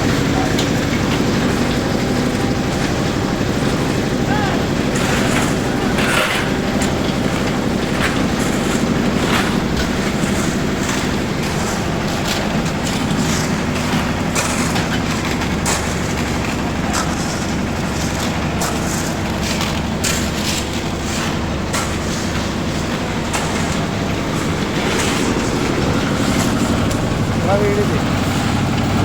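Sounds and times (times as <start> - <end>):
machine engine droning: 0.0 - 29.0.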